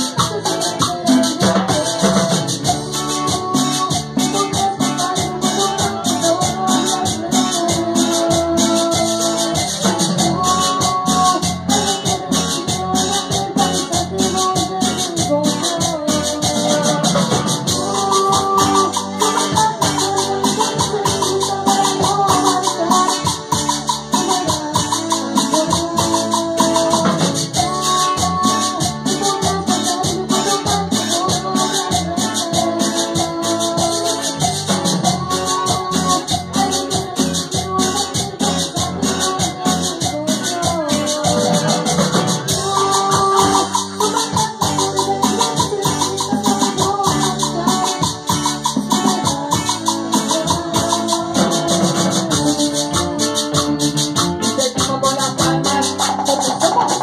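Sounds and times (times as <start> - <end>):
dance music: 0.0 - 57.0
fast rattling shaker beat: 0.0 - 57.0
people singing into microphones: 0.0 - 57.0.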